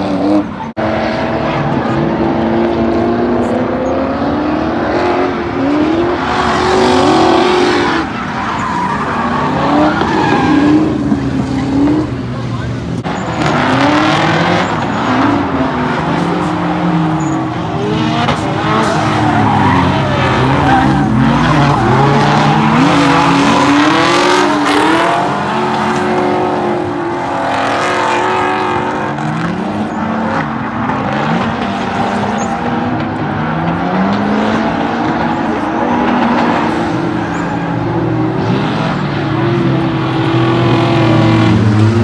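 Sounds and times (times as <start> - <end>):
car engines revving: 0.0 - 42.0
tyres screeching: 6.3 - 41.6.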